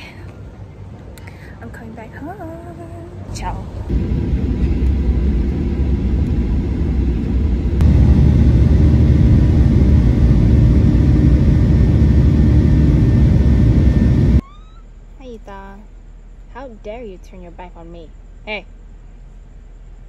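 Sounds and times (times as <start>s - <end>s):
jet engine and airflow rumble: 0.0s - 20.0s.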